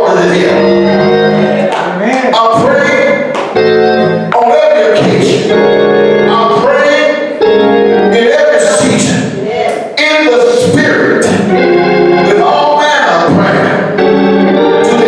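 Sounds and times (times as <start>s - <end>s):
gospel organ playing held chords: 0.0s - 15.0s.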